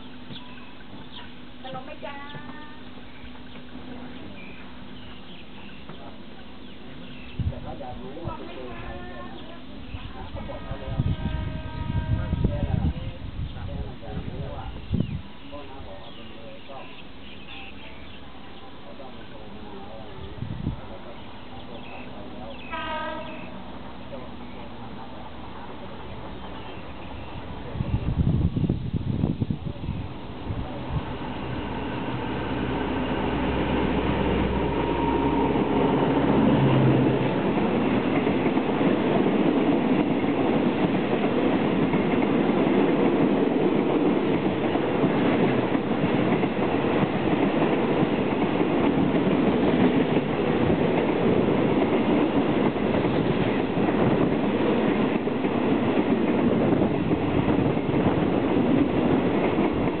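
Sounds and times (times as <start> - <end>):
diesel locomotive engine passing: 0.0 - 60.0.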